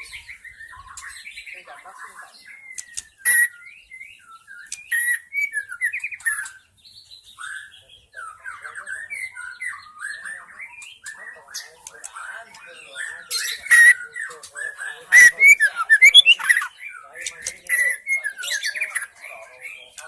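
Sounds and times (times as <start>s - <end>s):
bird whistling and chirping: 0.0s - 20.0s.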